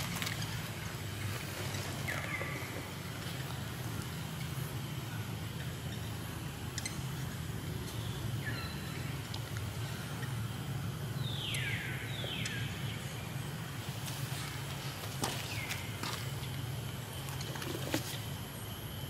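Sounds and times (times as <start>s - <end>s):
steady low rumble: 0.0s - 17.5s.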